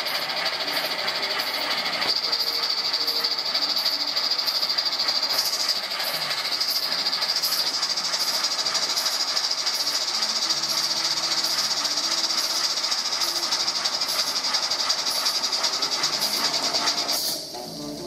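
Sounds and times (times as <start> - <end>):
steam locomotive puffing and hissing: 0.0 - 18.0.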